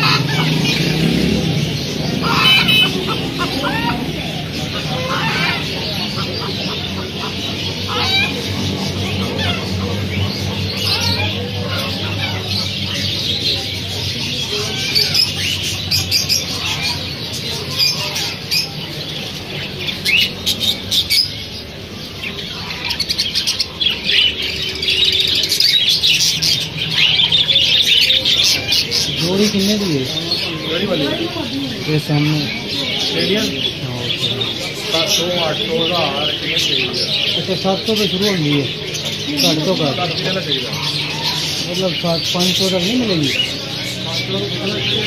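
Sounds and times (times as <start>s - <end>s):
birds chirping and squawking: 0.0s - 45.0s.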